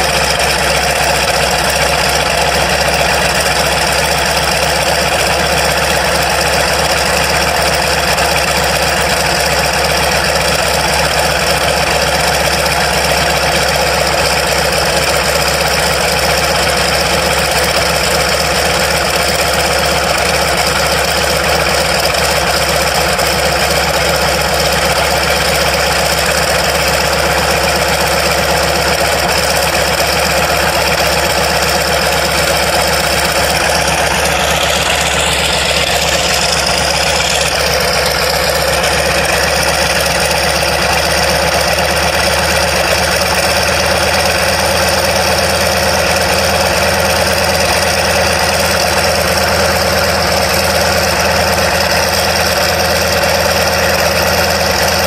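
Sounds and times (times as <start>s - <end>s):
radial aircraft engine running: 0.0s - 55.0s.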